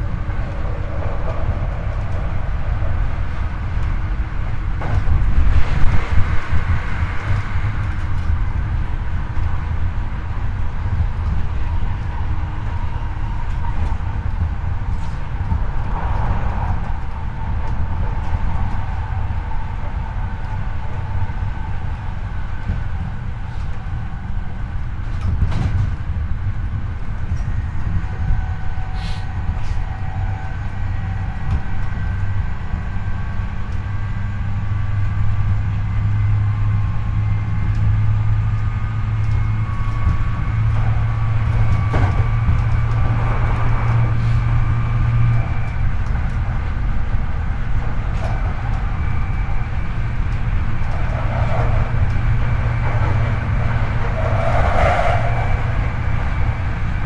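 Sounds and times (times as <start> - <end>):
rail-joint clicks: 0.0 - 57.0
wheels rumbling on rail: 0.0 - 57.0.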